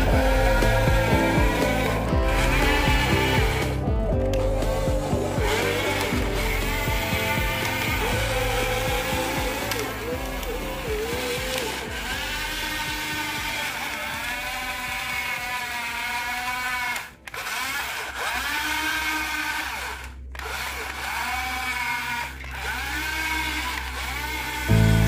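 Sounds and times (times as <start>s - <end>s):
small electric motor whining: 0.0s - 25.0s.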